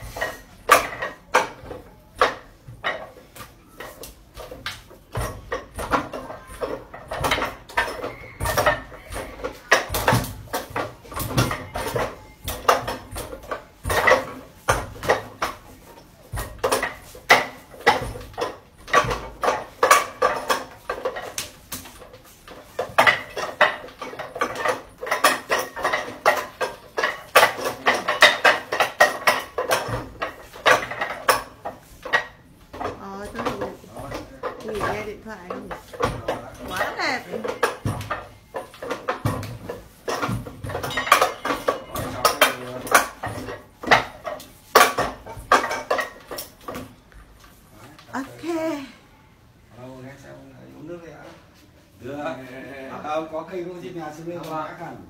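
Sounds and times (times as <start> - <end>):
hands striking wooden dummy: 0.0 - 47.0.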